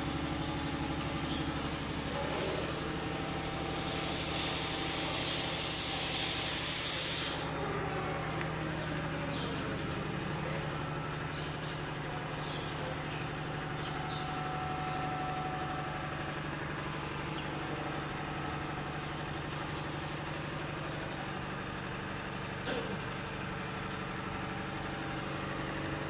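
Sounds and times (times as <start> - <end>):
diesel truck engine idling: 0.0 - 5.1, 7.3 - 26.0.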